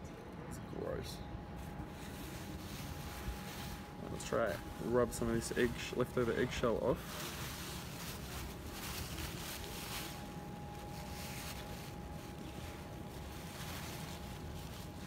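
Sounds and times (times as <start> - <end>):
steady low rumble: 0.0 - 15.0
paper towel rustling: 1.6 - 15.0.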